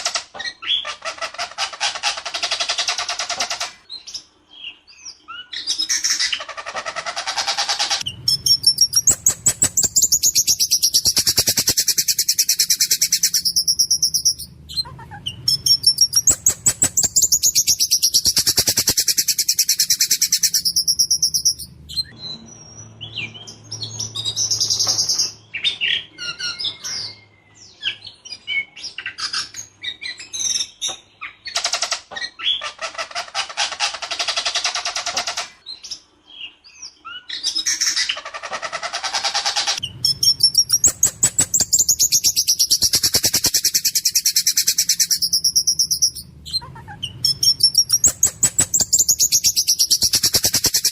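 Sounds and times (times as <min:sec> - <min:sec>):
bird calls and whistles: 0:00.0 - 0:50.9.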